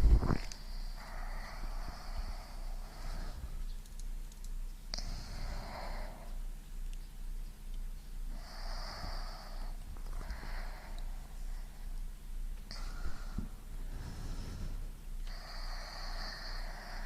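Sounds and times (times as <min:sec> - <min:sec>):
slow airy breathing: 0:00.0 - 0:03.8, 0:04.9 - 0:06.5, 0:08.3 - 0:17.0
steady low hum: 0:00.0 - 0:17.0.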